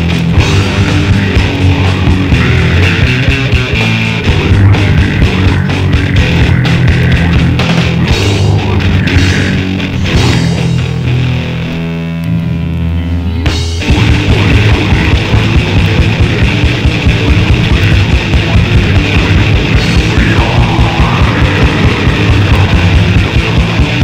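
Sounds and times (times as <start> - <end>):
very fast drumming: 0.0 - 11.4, 13.6 - 24.0
distorted guitars: 0.0 - 24.0
held distorted guitar chord: 0.0 - 24.0.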